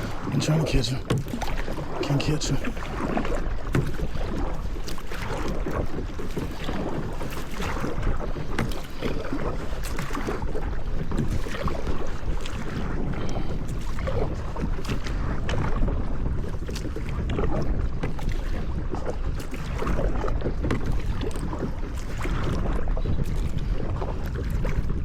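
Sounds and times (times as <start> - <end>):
water splashing from paddling: 0.0 - 25.0
wind rumbling on microphone: 0.0 - 25.0.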